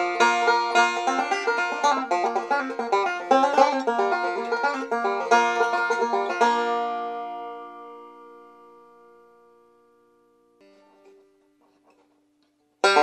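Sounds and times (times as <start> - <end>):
banjo picking: 0.0 - 9.4, 10.6 - 13.0.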